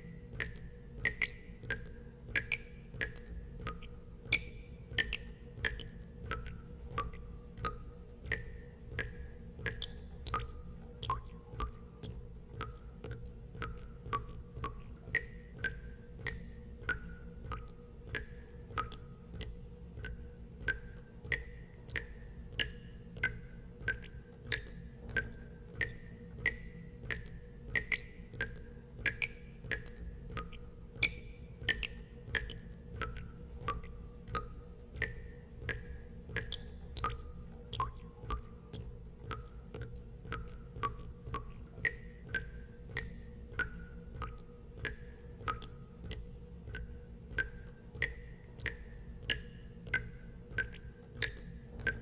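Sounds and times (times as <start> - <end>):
steady low hum: 0.0 - 52.0
water drops plinking into water: 0.0 - 52.0.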